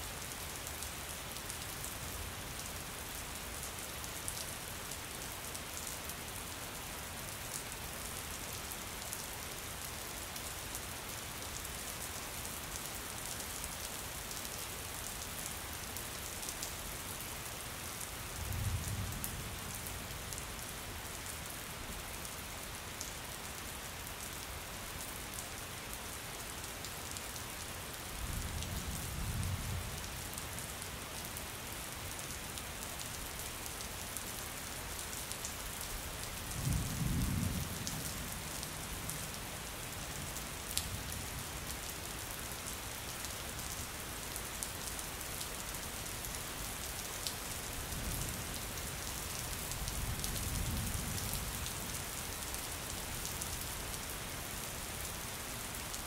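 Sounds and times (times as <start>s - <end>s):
rain on hard surface: 0.0s - 56.0s.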